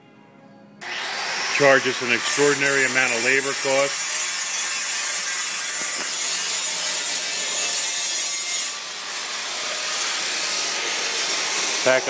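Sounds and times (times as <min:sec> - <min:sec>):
grinder on metal: 0:00.8 - 0:12.0.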